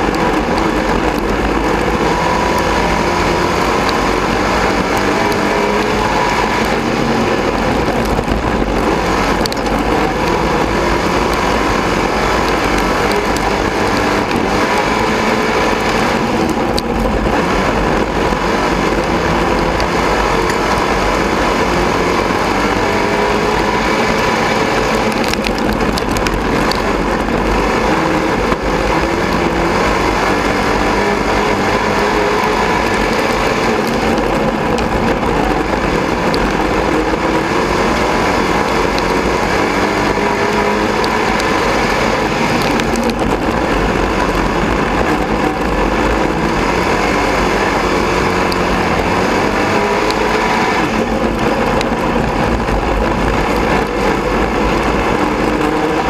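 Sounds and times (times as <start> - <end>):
race car engine running hard: 0.0 - 56.0
track and wind noise: 0.0 - 56.0.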